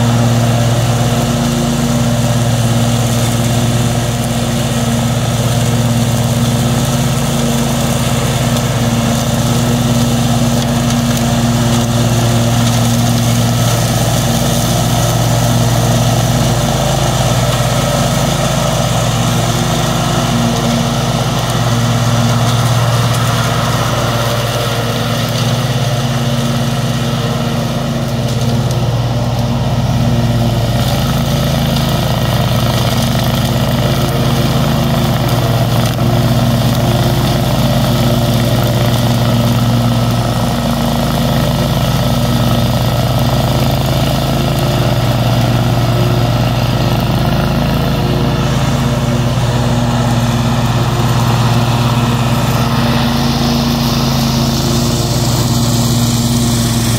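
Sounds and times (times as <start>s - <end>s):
riding mower engine running: 0.0s - 56.9s.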